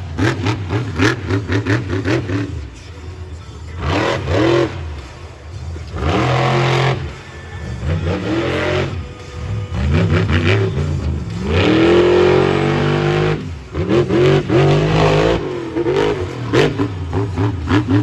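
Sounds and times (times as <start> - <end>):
truck engine revving: 0.0 - 3.0, 3.6 - 18.0.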